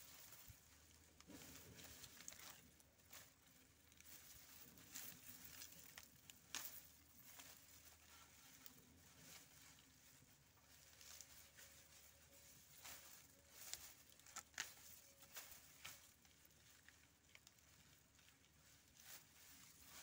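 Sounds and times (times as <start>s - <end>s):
dry stalks and leaves rustling: 0.0s - 20.0s.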